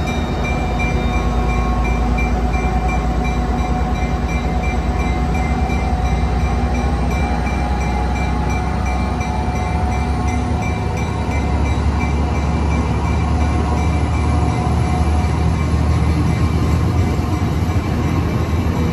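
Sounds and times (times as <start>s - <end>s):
diesel locomotive rumble: 0.0s - 18.9s
train coaches rolling: 0.0s - 18.9s.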